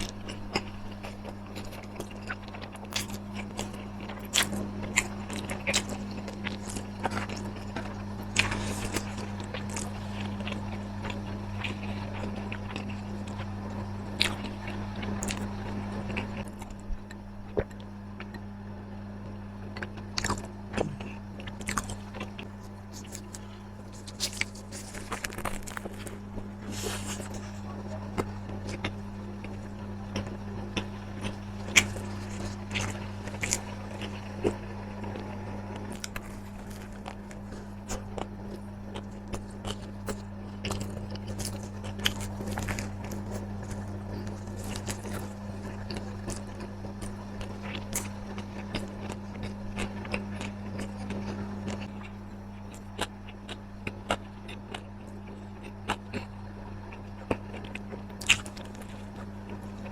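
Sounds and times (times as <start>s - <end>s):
crunchy food being chewed: 0.0s - 59.9s
steady low hum: 0.0s - 59.9s.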